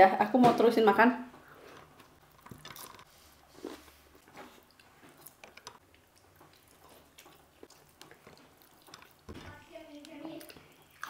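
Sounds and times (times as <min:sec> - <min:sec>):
person chewing food: 0:01.4 - 0:11.0.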